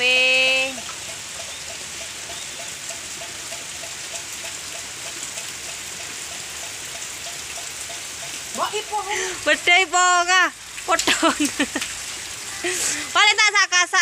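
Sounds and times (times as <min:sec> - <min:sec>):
heavy rain falling: 0:00.0 - 0:14.0
water drips plinking: 0:00.1 - 0:13.0.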